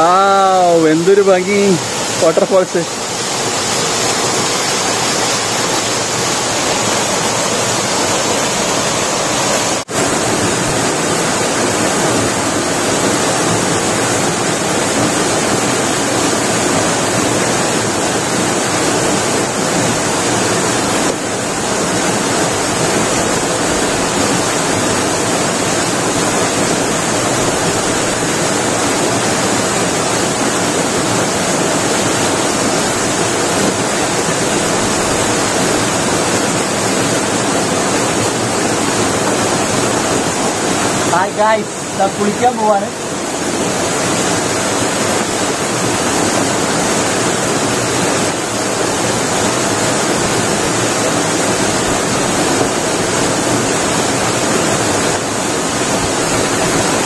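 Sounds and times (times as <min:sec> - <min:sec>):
waterfall pouring: 0:00.0 - 0:57.0.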